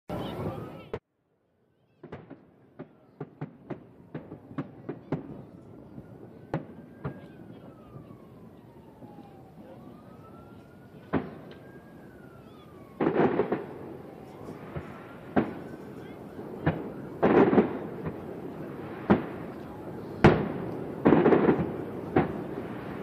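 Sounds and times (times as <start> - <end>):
siren wailing: 0.1 - 1.0, 3.9 - 23.0
distant fireworks bangs: 2.0 - 23.0.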